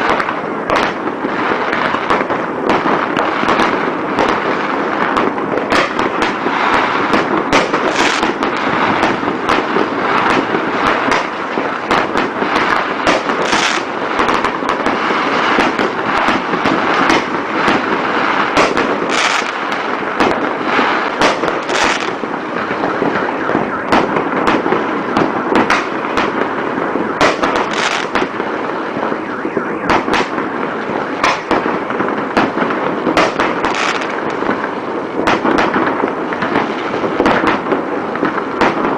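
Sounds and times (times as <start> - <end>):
firework bangs: 0.0 - 38.9
fireworks crackling and popping: 0.0 - 38.9.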